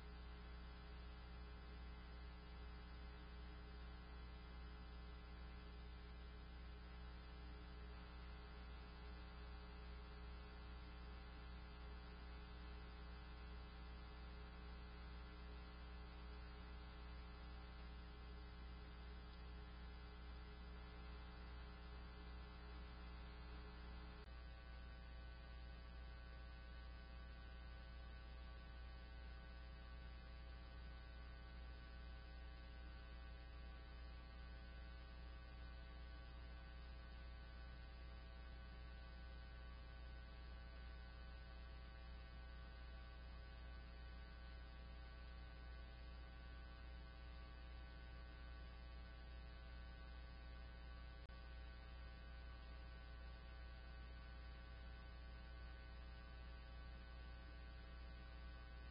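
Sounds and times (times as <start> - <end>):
low electrical hum: 0.0 - 58.9.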